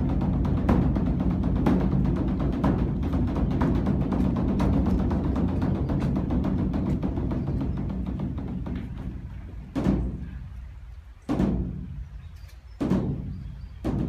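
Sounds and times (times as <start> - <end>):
large drum beaten with sticks: 0.0 - 10.5, 11.3 - 12.1, 12.8 - 14.0.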